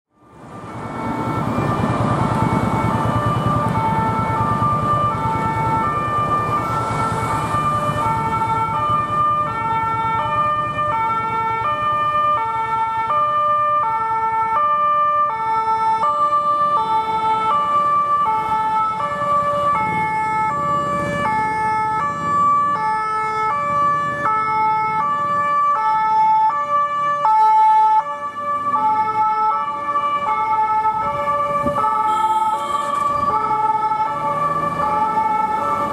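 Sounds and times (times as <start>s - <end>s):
city traffic noise: 0.1s - 35.9s
ambulance two-tone siren: 0.2s - 35.9s.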